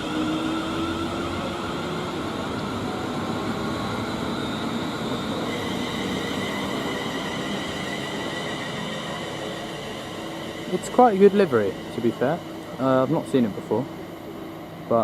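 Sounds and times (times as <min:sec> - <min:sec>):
electric traction whine: 0:00.0 - 0:15.0
electric train pulling away: 0:00.0 - 0:15.0.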